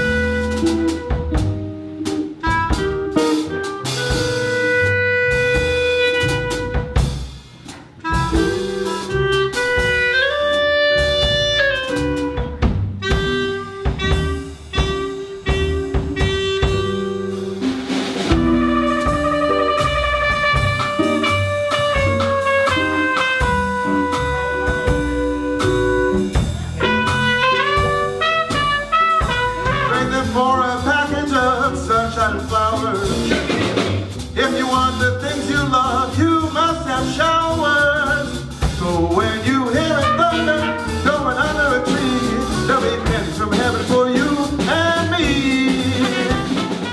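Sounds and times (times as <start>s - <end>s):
swing jazz band playing: 0.0s - 46.9s.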